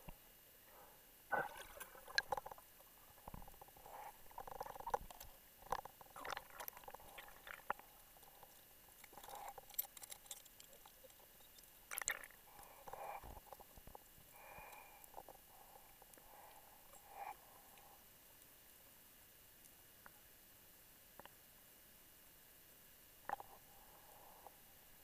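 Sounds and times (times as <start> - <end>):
soft underwater gurgles: 0.0 - 25.0.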